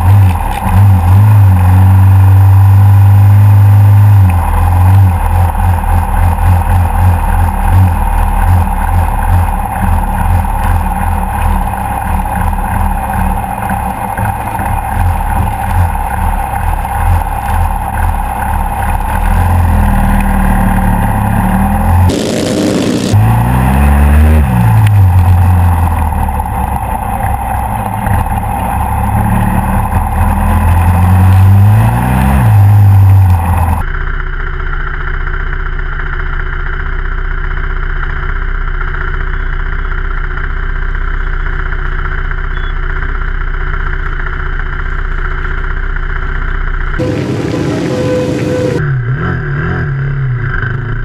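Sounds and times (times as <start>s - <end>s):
motorcycle engine revving: 0.0s - 51.0s
steady engine hum: 0.0s - 51.0s.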